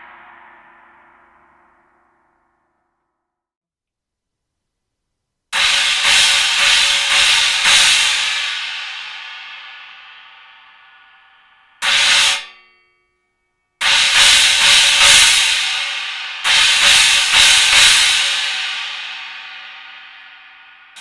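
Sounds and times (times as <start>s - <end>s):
cymbal struck and ringing: 0.0s - 2.6s, 5.6s - 13.1s, 13.8s - 21.0s.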